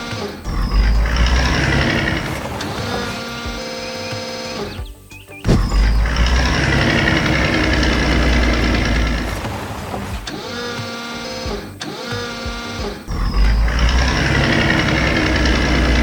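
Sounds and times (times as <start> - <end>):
heavy machine engine rumble: 0.5 - 10.8, 13.1 - 16.0.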